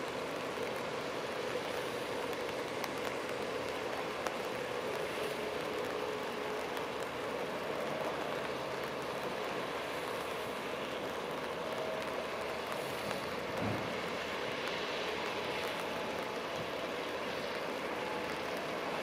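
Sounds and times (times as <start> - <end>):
rain falling: 0.0 - 19.0
raindrop ticks: 0.0 - 19.0.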